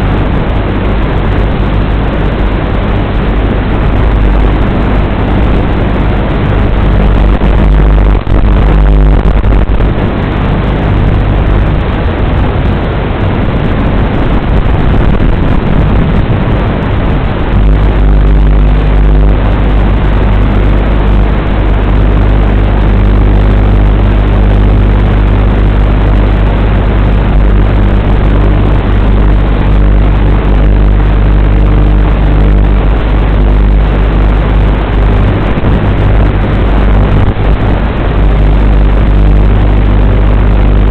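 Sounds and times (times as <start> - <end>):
loud steady hiss: 0.0 - 40.9
low droning hum: 0.0 - 40.9.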